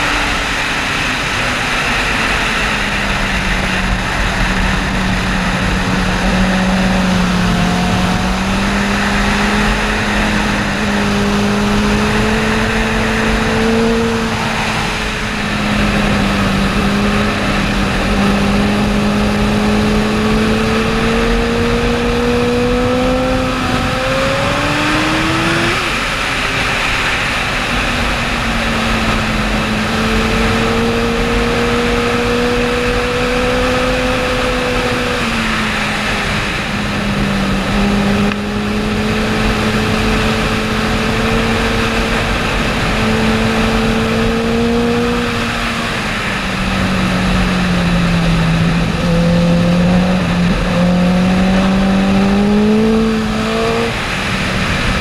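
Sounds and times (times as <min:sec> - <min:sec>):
motorcycle engine at speed: 0:00.0 - 0:55.0
wind rush over microphone: 0:00.0 - 0:55.0.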